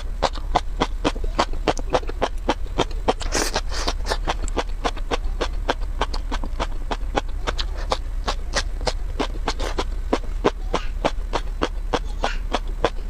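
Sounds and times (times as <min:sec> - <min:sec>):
crisp chewing crunches: 0:00.0 - 0:13.0.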